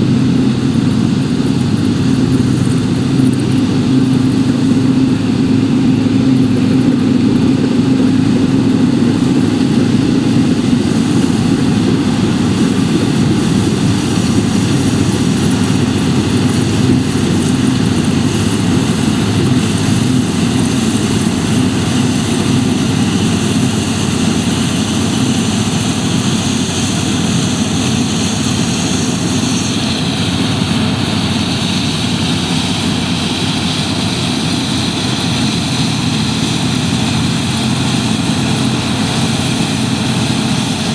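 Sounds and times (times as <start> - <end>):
combine harvester droning: 0.0 - 40.9
high whine: 0.0 - 40.9.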